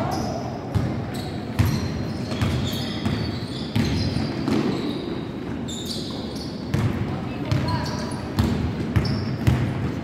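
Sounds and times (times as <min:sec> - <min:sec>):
sneaker squeaks: 0:00.0 - 0:10.0
basketball bouncing on gym floor: 0:00.7 - 0:05.1, 0:06.0 - 0:10.0.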